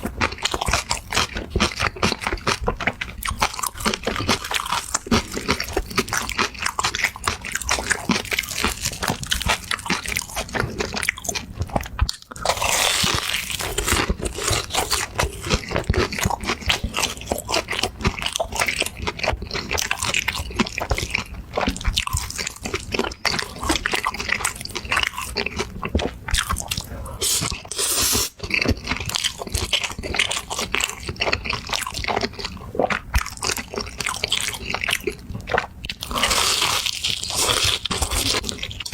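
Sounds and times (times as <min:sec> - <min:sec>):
crunchy bites and chewing: 0:00.0 - 0:38.9.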